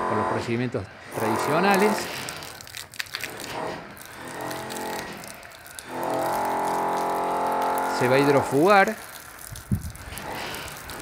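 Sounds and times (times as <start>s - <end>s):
motor hum: 0.0s - 11.0s.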